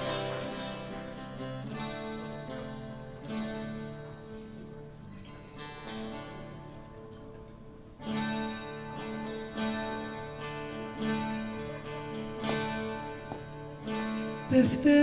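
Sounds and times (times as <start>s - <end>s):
plucked lute folk music: 0.0s - 15.0s.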